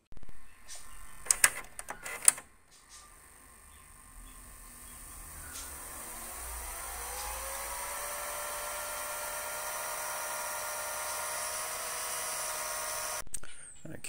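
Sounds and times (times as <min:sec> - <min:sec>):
tape reels spooling whine: 0:00.0 - 0:13.2.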